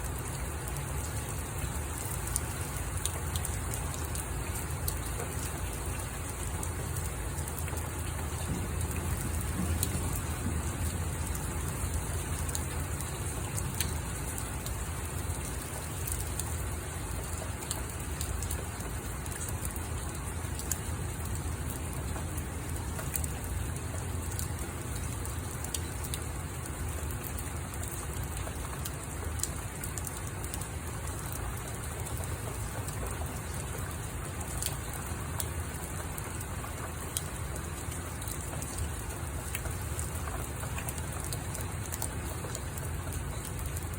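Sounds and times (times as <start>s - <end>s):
raindrops ticking on a surface: 0.0s - 43.9s.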